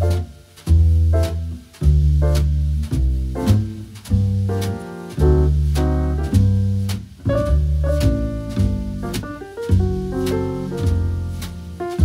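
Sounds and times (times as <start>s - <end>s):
bass notes: 0.0s - 12.0s
light drum strokes: 0.0s - 12.0s.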